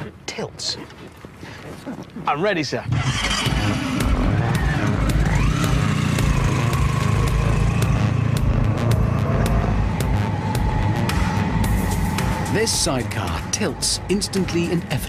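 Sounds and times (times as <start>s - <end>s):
motorcycle engine revving: 2.9s - 15.0s.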